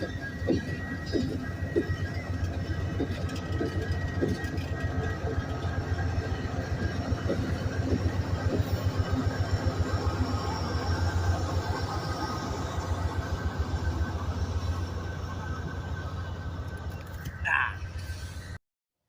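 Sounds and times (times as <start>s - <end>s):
rapid clicking of wheels on track: 0.0s - 17.4s.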